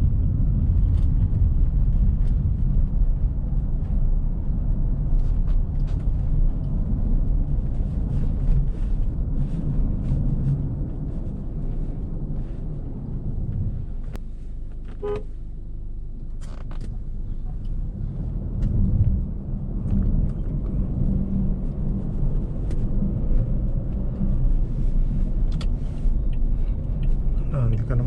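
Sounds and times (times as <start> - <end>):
car rumbling through snow: 0.0 - 28.0.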